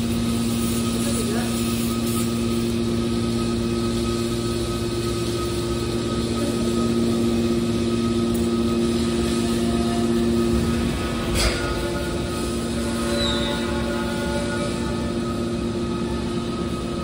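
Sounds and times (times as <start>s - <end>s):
car baler machine hum: 2.8s - 17.0s.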